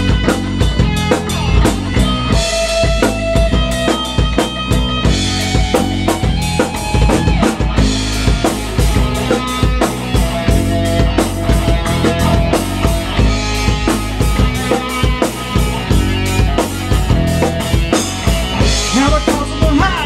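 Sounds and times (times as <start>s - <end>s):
electric guitar: 0.0s - 20.0s
rock backing track drums: 0.0s - 20.0s.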